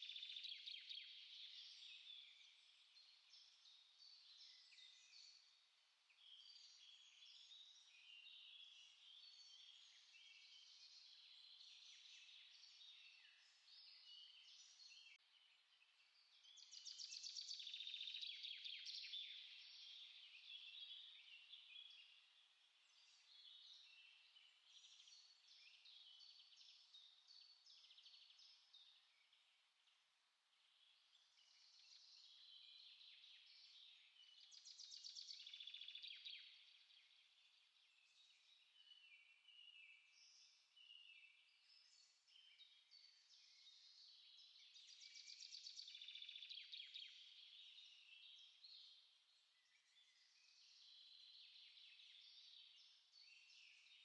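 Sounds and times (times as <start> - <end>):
songbirds chirping chorus: 0.0 - 54.0.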